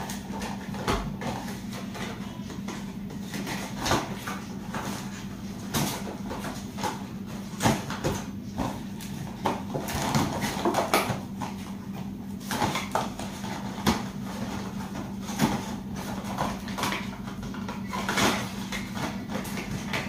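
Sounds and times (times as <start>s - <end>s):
cardboard boxes rustling: 0.0s - 20.0s.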